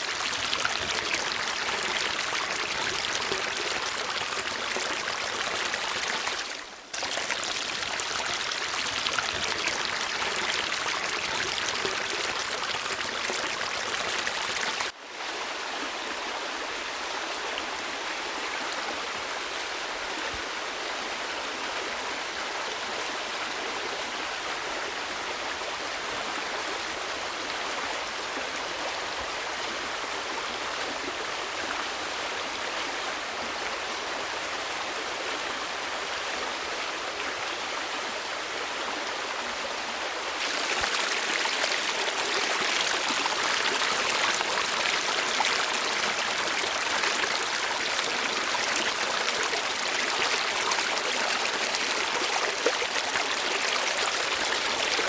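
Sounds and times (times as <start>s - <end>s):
flowing stream water: 0.0s - 55.0s.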